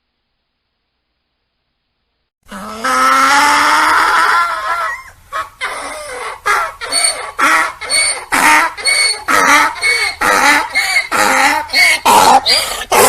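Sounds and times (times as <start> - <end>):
donkey braying: 2.5 - 13.0.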